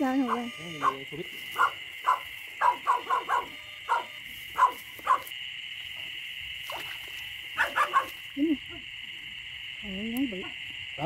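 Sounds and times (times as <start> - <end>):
frog croaks: 0.0 - 11.0
high chorus of night insects: 0.0 - 11.0.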